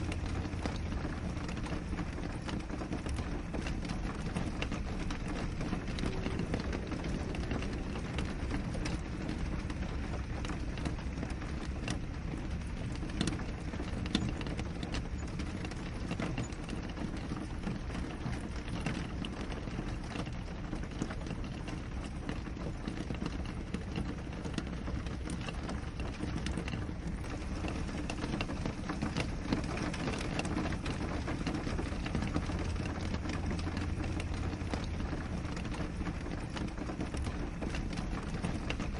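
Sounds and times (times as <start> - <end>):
rain hissing on a window: 0.0 - 38.9
raindrops tapping: 0.0 - 38.9.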